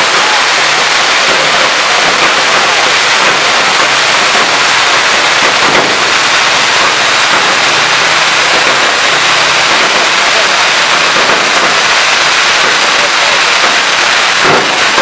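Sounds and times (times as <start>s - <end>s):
firework fountains hissing: 0.0s - 15.0s.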